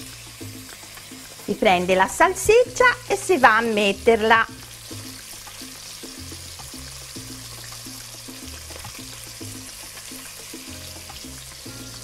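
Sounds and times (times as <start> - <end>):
background music with bass line: 0.0 - 12.0
meat sizzling in a frying pan: 0.0 - 12.0.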